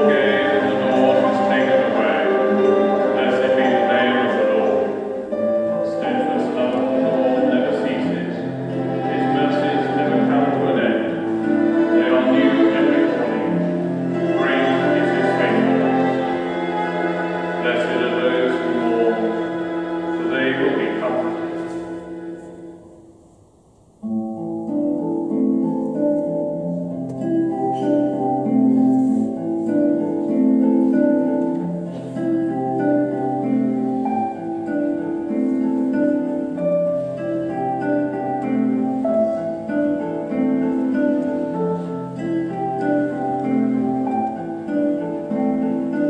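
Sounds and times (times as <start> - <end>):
gentle instrumental melody: 0.0 - 46.0.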